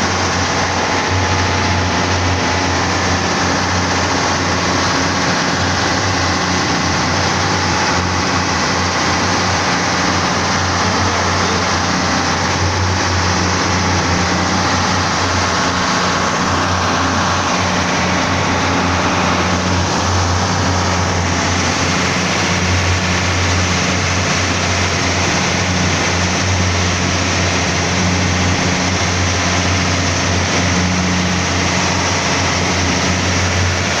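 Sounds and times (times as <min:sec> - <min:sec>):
boat engine humming: 0:00.0 - 0:34.0
noisy hiss: 0:00.0 - 0:34.0.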